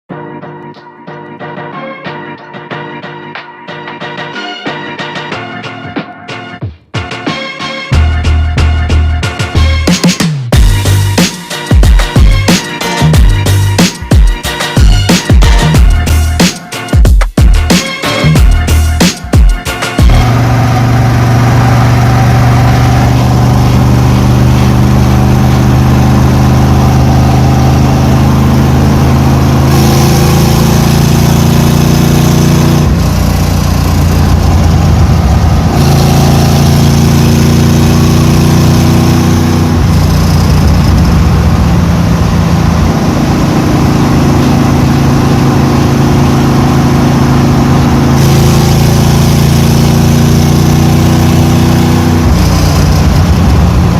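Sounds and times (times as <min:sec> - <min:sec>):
engine revving: 0:08.0 - 0:16.5, 0:17.6 - 0:53.9.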